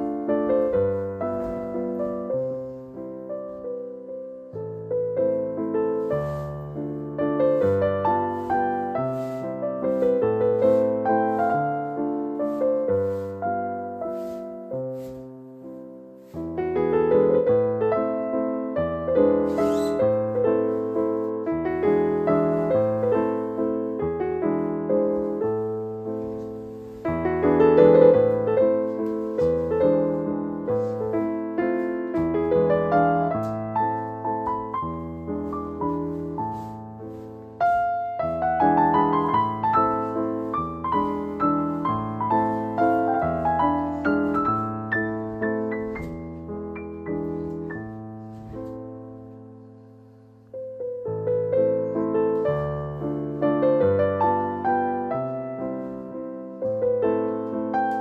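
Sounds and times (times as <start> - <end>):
gentle piano music: 0.0 - 58.0.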